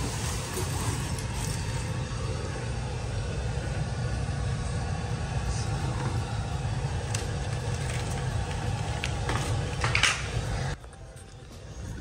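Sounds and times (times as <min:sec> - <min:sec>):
air handler blower rumbling: 0:00.0 - 0:12.0.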